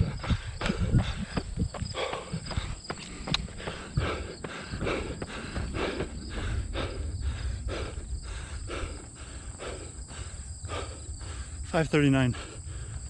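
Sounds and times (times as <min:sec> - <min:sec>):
runner breathing hard: 0:00.0 - 0:13.0
running footfalls: 0:00.0 - 0:13.0.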